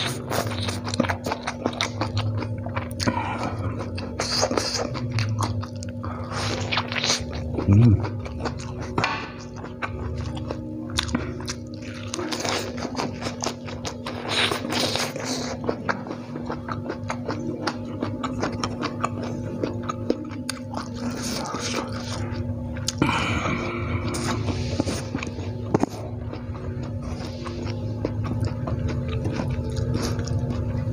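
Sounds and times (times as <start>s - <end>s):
chewing noodles: 0.0s - 30.9s.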